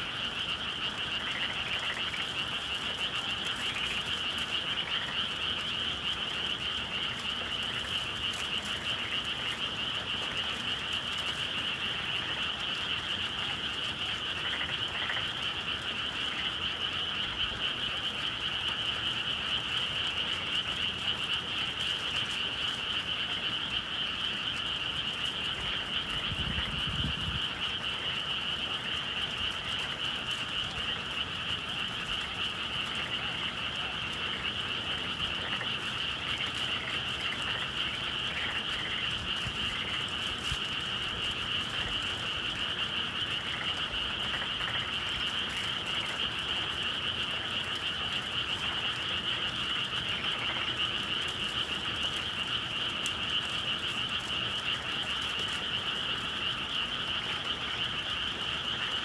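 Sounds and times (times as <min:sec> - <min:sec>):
chorus of frogs calling: 0:00.0 - 0:59.0.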